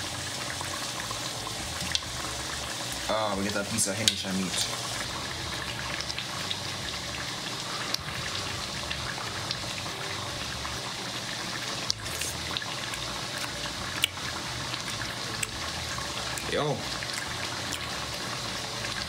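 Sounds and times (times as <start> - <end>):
pot simmering with bubbling hiss: 0.0 - 19.0.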